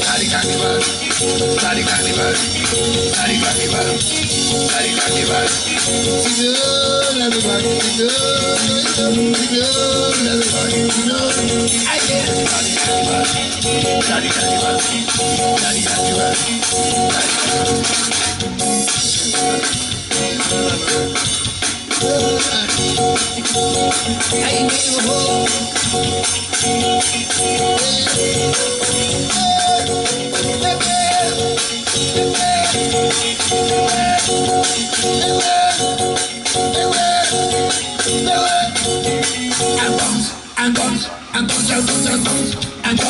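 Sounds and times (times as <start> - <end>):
drum kit: 0.0 - 43.0.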